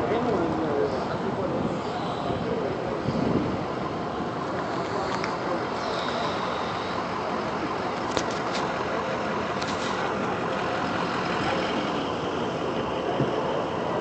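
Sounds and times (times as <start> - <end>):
vehicle engines idling: 0.0 - 14.0.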